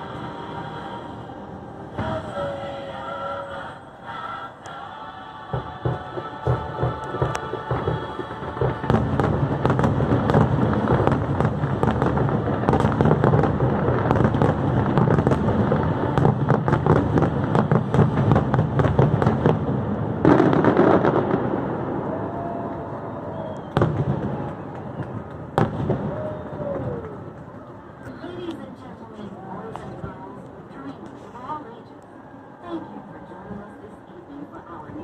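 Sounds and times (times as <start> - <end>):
fireworks crackling and banging: 1.9 - 3.7, 4.7 - 31.6.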